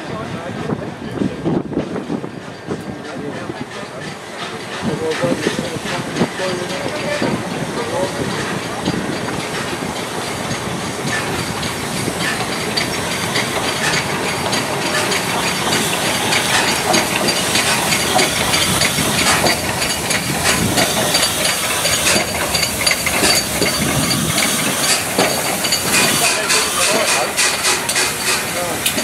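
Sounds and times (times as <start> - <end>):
wheels clicking over rail joints: 0.0 - 29.0
steam hissing: 2.2 - 29.0.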